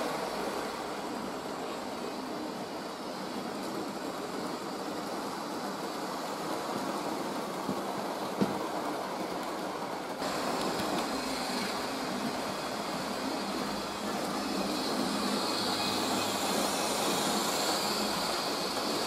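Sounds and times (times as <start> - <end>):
model trains running on track: 0.0 - 19.0.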